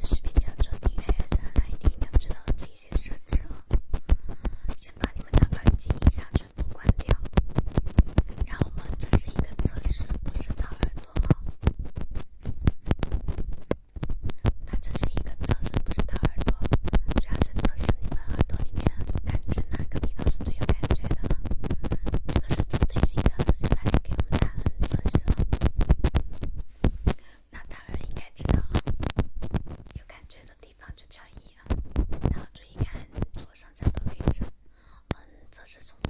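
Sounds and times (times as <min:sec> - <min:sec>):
tapping and scratching on microphone: 0:00.0 - 0:36.0.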